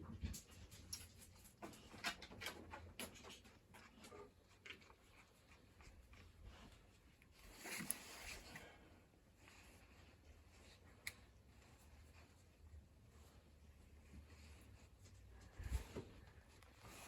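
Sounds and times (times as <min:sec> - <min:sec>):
faint scratching and light clicks: 0:00.0 - 0:17.0.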